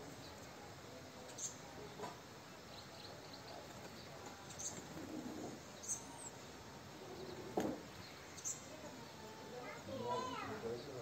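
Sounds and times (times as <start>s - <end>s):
outdoor background hiss: 0.0s - 11.0s
small birds chirping: 0.0s - 11.0s.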